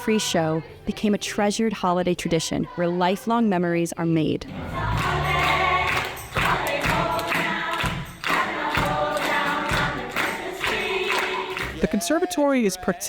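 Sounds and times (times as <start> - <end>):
chorus singing: 0.0 - 3.7, 4.4 - 13.0.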